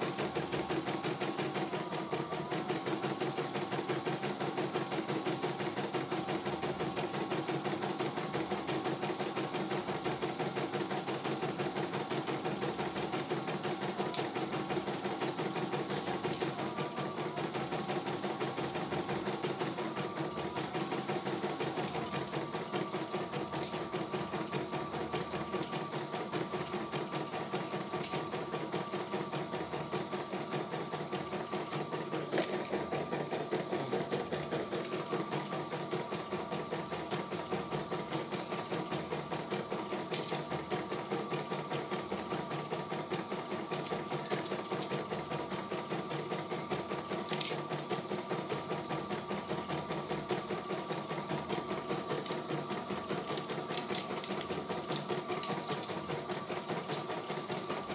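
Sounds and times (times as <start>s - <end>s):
embroidery machine needle stitching: 0.0s - 57.9s.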